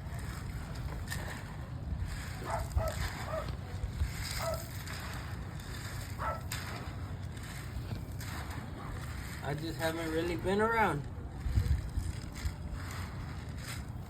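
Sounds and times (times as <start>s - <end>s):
wind on microphone: 0.0s - 9.4s, 11.0s - 14.0s.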